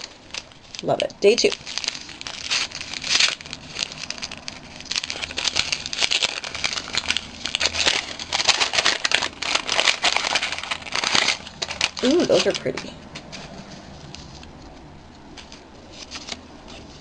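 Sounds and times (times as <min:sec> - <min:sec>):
packaging bag crinkling: 0:00.0 - 0:17.0.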